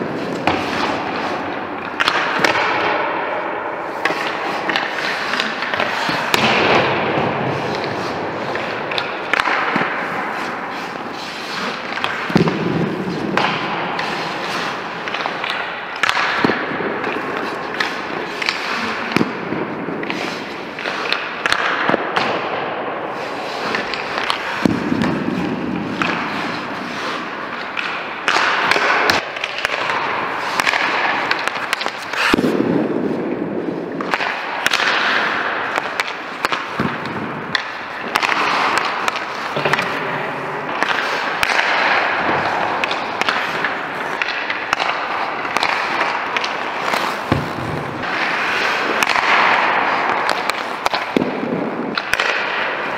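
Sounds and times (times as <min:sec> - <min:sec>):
pucks and sticks cracking: 0:00.0 - 0:52.9
skates scraping on ice: 0:00.0 - 0:52.9.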